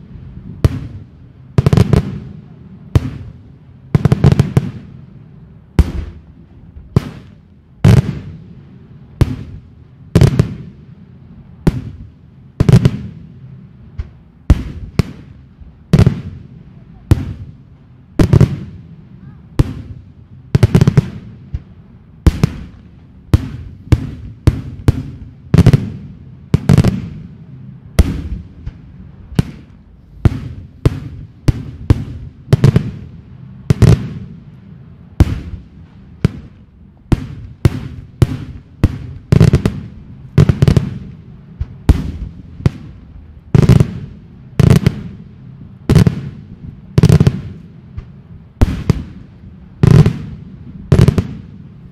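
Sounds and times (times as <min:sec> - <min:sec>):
fireworks bursting with loud bangs: 0:00.0 - 0:51.9.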